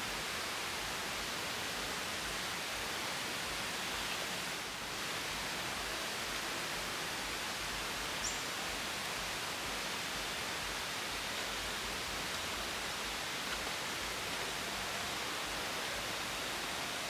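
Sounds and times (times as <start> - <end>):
rainforest ambience hiss: 0.0 - 17.0.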